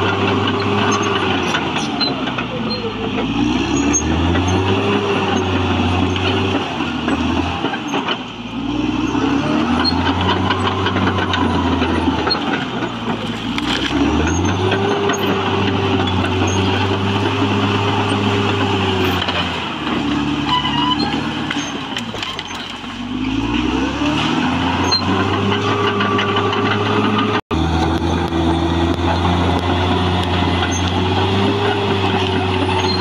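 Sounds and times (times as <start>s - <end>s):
bulldozer diesel engine under load: 0.0s - 33.0s.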